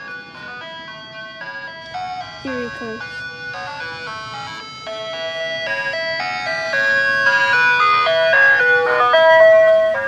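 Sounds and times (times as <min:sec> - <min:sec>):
ice cream truck chime melody: 0:00.0 - 0:10.0.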